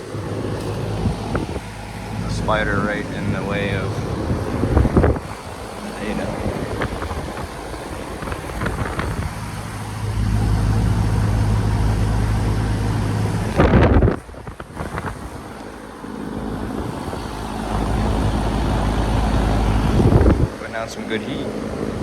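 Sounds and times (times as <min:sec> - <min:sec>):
air conditioner hum: 0:00.0 - 0:22.0
fan rushing: 0:00.0 - 0:22.0
loud rushing noise: 0:00.0 - 0:22.0.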